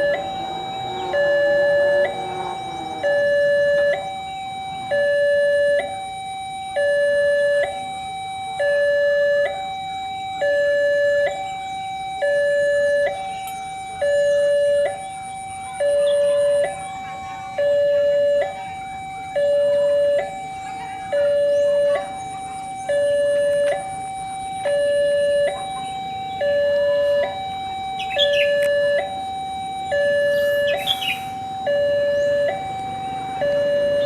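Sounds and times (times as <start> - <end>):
two-tone crossing alarm: 0.0 - 34.0.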